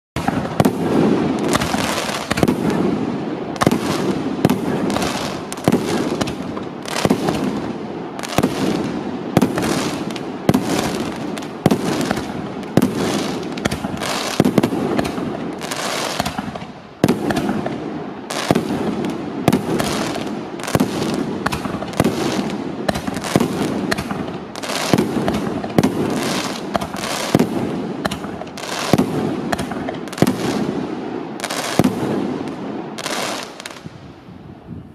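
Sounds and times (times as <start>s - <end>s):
firework bangs: 0.2s - 33.9s
firework crackling: 0.2s - 33.9s.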